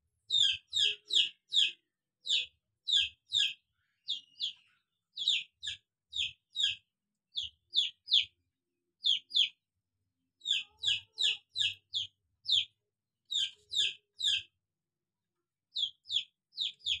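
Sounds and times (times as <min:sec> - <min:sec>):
bird chirping: 0:00.2 - 0:09.8, 0:10.4 - 0:14.6, 0:15.7 - 0:17.0.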